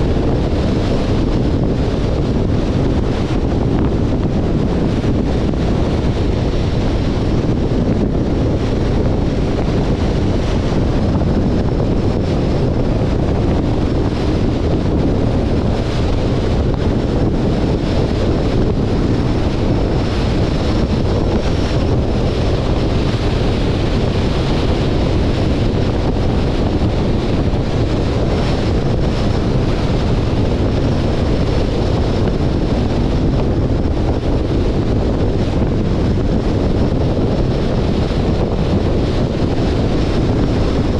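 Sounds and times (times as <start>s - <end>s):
wind buffeting microphone: 0.0s - 40.9s
wind rush and road noise: 0.0s - 40.9s.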